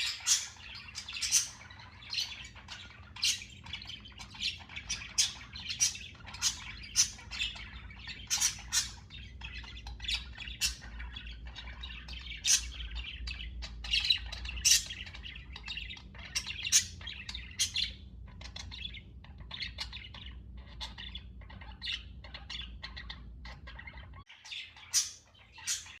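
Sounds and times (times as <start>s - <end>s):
budgerigars chirping: 0.0s - 26.0s.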